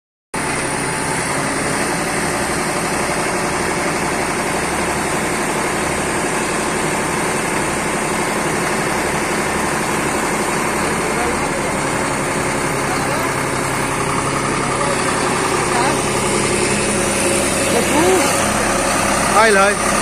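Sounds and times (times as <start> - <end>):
tractor diesel engine running: 0.4 - 20.0.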